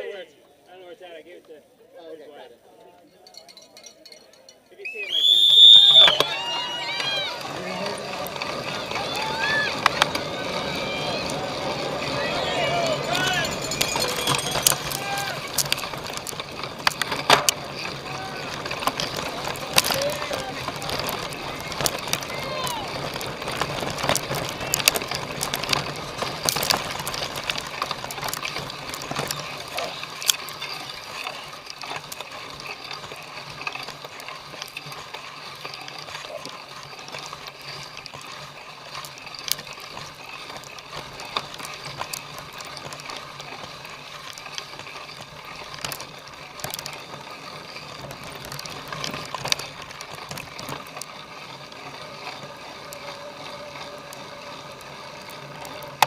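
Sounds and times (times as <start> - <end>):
bicycle chain clicking and rattling: 3.1 - 56.0
bicycle knocking over rough ground: 5.1 - 56.0.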